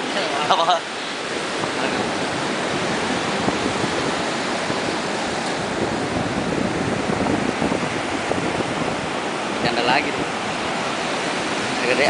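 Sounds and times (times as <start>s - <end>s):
surf rushing: 0.0s - 12.0s
wind on beach: 0.0s - 12.0s.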